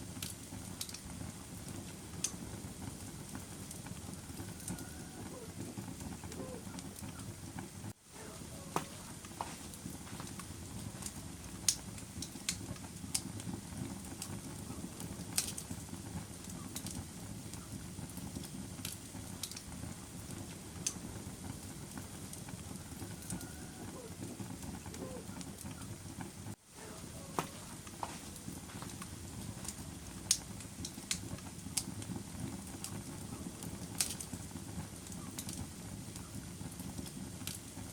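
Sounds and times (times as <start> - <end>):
fire crackling and popping: 0.0 - 37.9
fire rushing in a fireplace: 0.0 - 37.9.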